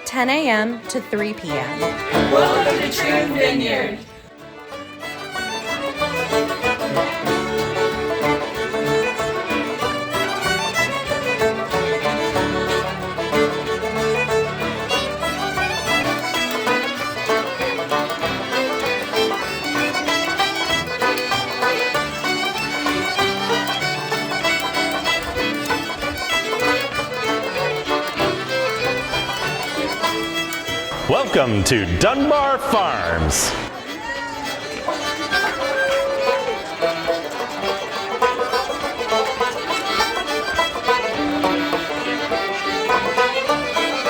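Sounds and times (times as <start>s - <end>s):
fiddle folk tune: 0.0s - 44.0s.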